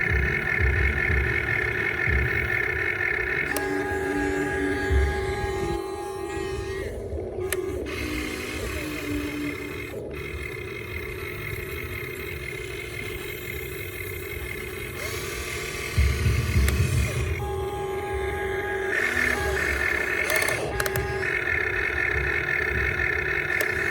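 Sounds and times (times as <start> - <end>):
low rumble: 0.0 - 23.9
small electric motors whining: 0.0 - 23.9.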